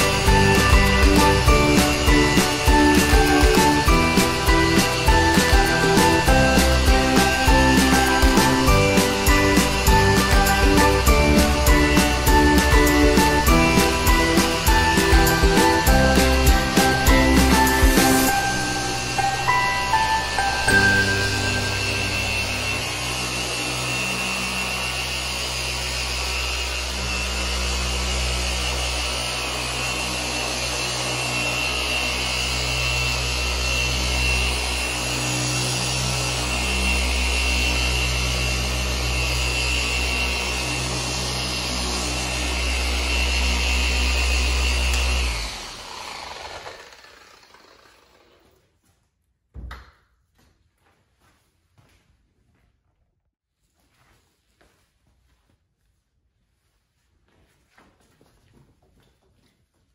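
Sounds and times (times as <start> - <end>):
polisher whining: 0.0 - 48.6.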